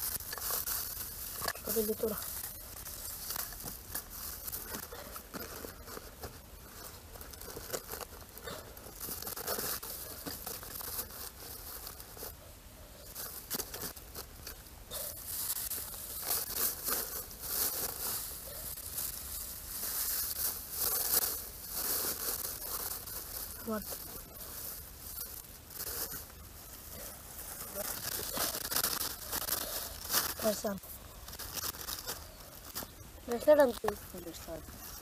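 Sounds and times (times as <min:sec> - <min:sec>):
dry leaves rustling and crackling: 0:00.0 - 0:35.0.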